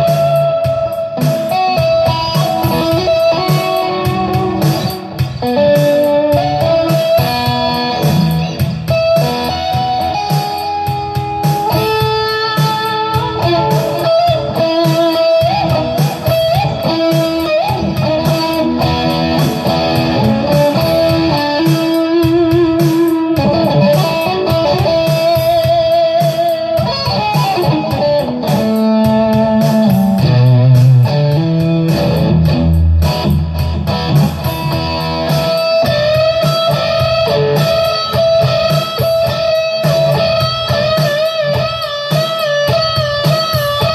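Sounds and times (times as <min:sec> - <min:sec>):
electric guitar lead: 0:00.0 - 0:43.9.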